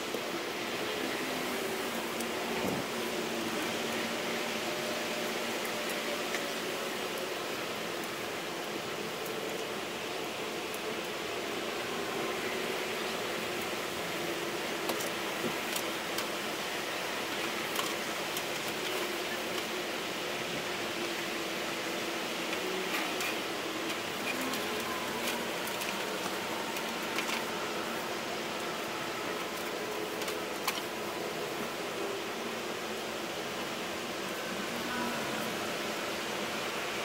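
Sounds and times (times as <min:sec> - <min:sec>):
background hiss and hum: 0:00.0 - 0:37.0.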